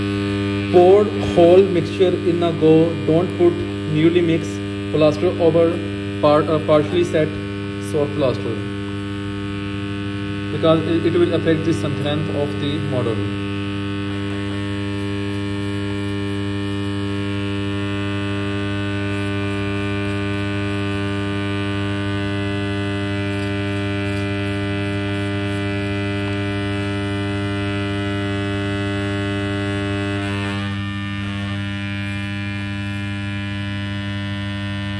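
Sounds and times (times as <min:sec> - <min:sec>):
vibrator buzzing with mains hum: 0:00.0 - 0:34.9.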